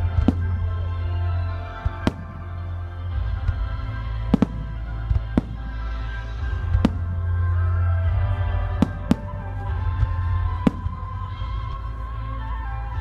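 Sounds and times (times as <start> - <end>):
music with low drone: 0.0 - 13.0.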